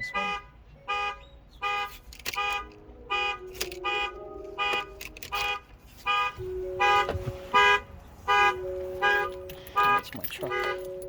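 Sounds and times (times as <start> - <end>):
truck alarm horn honking: 0.0 - 11.0.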